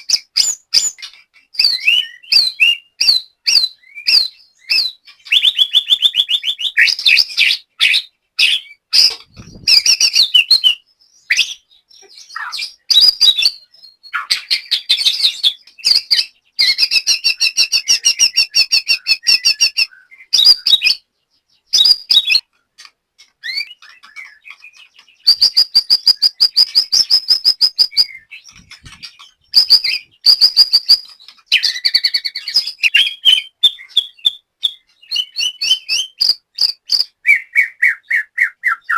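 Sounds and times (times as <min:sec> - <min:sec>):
bird singing varied whistled song: 0:00.0 - 0:22.5, 0:23.4 - 0:38.9.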